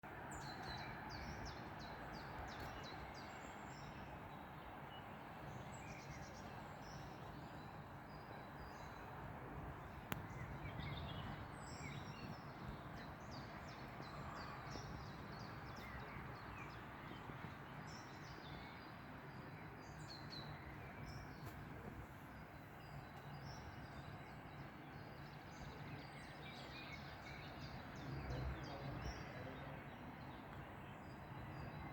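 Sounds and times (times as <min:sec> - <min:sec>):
small birds chirping: 0:00.1 - 0:31.9.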